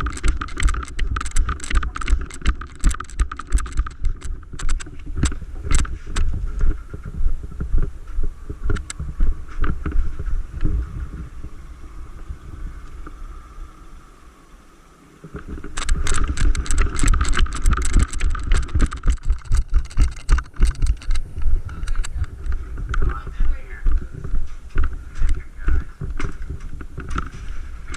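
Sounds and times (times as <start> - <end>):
gear knocking against camera: 0.0 - 11.2, 15.3 - 27.9
footsteps: 0.0 - 13.2, 15.2 - 27.9.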